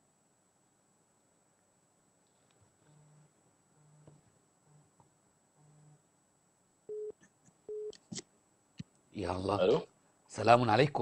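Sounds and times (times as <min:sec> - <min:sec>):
faint background hiss: 0:00.0 - 0:11.0
faint low hums: 0:00.0 - 0:11.0.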